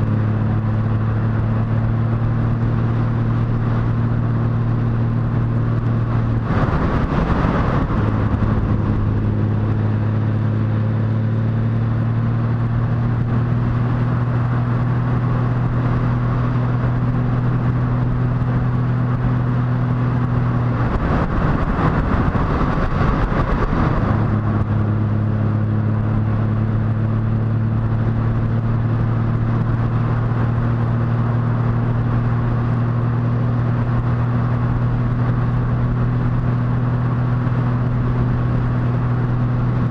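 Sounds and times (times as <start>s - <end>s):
motorcycle engine humming: 0.0s - 39.9s
rush of noise: 0.0s - 39.9s
wind and road noise: 0.0s - 39.9s.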